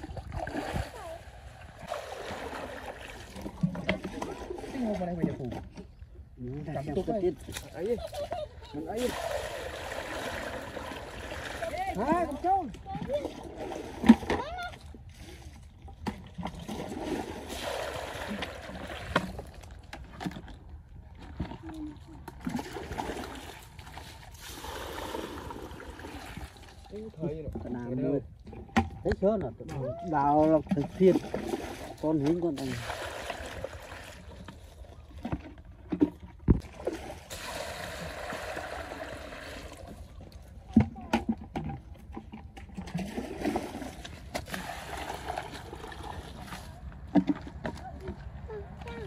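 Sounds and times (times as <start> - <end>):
muddy water sloshing: 0.0 - 49.0.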